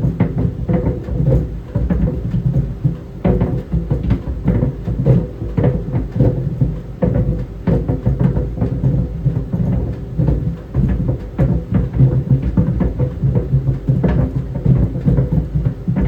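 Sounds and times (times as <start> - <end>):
clothes dryer rumbling: 0.0 - 16.0
tennis balls thudding in dryer drum: 0.0 - 16.0.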